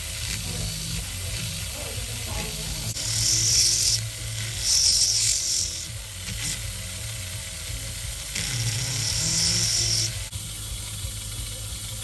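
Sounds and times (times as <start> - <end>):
high hissing grinding: 0.0 - 12.0
low motor hum: 0.0 - 12.0.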